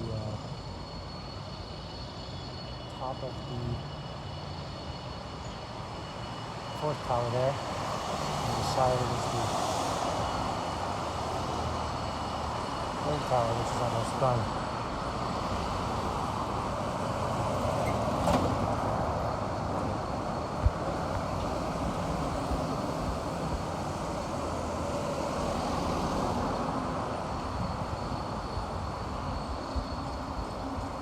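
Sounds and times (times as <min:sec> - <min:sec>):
highway traffic rumble: 0:00.0 - 0:31.0.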